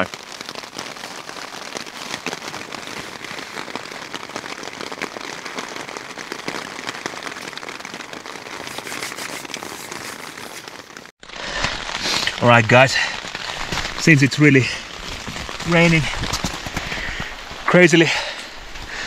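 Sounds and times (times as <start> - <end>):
heavy rain on tent fabric: 0.0 - 19.0.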